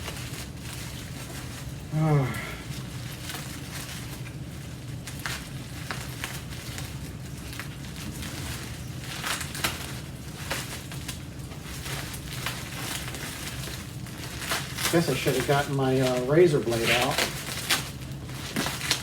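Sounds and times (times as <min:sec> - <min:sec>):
packing material rustling: 0:00.0 - 0:19.0.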